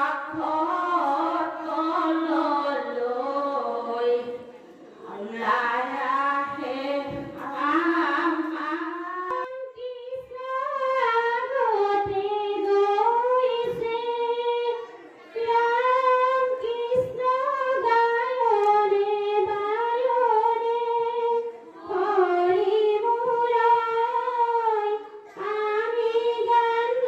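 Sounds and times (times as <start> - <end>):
women singing slow song: 0.0 - 27.0.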